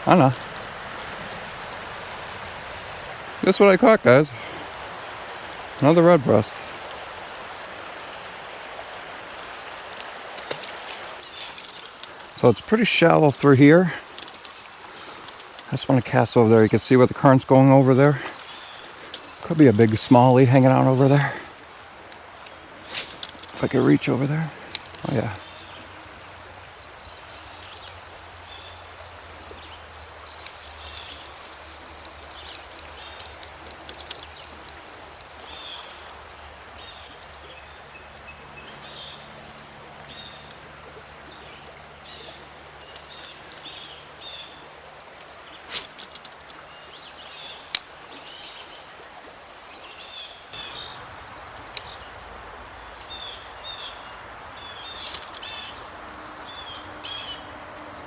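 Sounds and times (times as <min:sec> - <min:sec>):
creek water running: 0:00.0 - 0:58.0
small birds chirping: 0:10.6 - 0:58.0.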